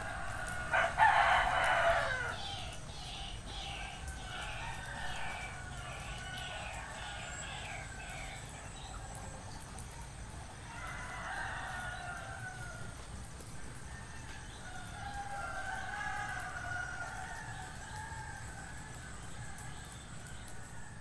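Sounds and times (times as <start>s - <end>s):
roosters crowing: 0.0s - 8.5s, 10.6s - 21.0s.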